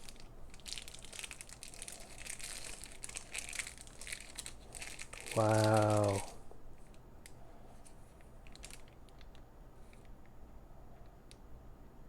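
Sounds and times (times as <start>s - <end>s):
packaging crinkling and rustling: 0.0s - 10.1s.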